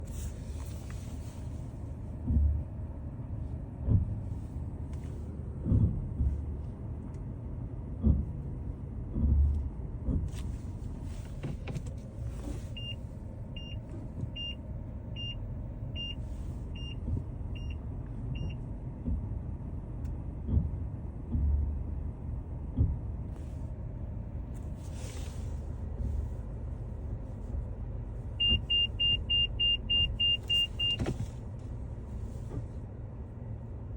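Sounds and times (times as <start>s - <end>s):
brakes grinding: 0.0s - 33.8s
car low rumble: 0.0s - 33.9s.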